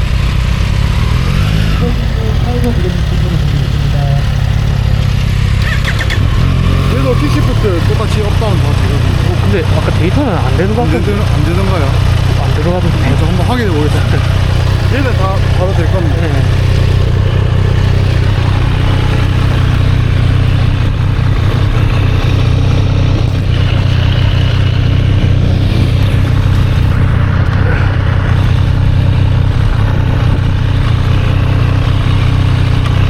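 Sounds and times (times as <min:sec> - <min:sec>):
motorcycle engine running steadily: 0:00.0 - 0:33.0.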